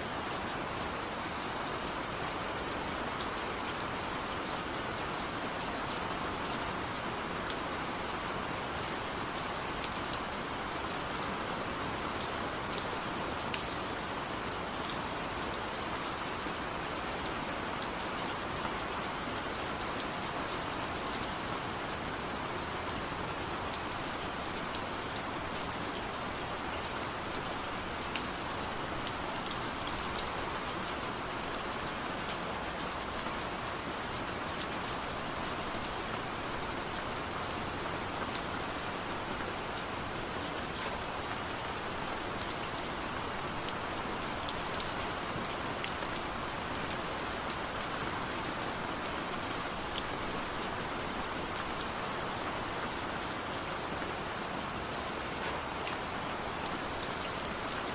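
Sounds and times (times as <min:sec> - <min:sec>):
steady rain hissing: 0:00.0 - 0:57.9.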